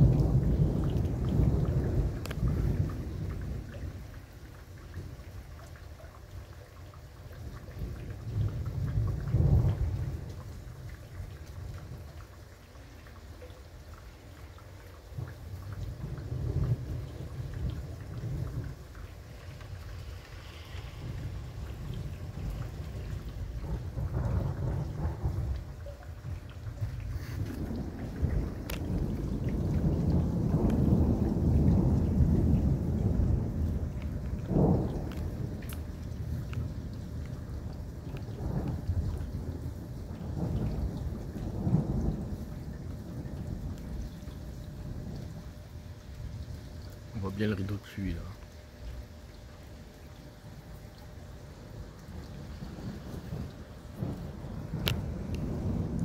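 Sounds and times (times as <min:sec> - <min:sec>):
thunder rumbling: 0:00.0 - 0:05.6, 0:07.4 - 0:12.3, 0:15.1 - 0:56.0
rain falling: 0:00.0 - 0:56.0.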